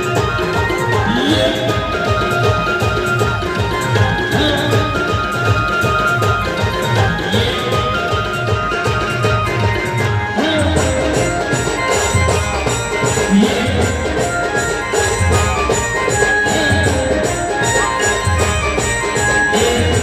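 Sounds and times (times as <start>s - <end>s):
band melody notes: 0.0s - 20.0s
jingling percussion: 0.0s - 20.0s
steady drum beat: 0.0s - 20.0s.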